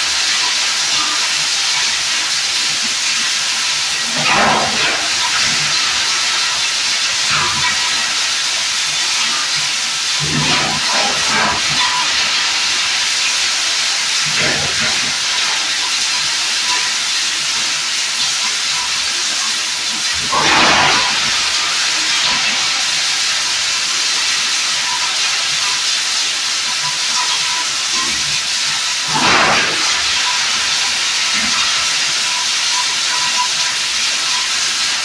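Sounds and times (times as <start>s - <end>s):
plastic grinder hissing: 0.0s - 35.0s.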